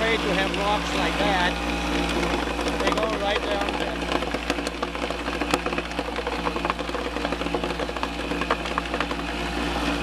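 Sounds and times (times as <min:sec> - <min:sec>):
shaker deck humming and rattling: 0:00.0 - 0:10.0.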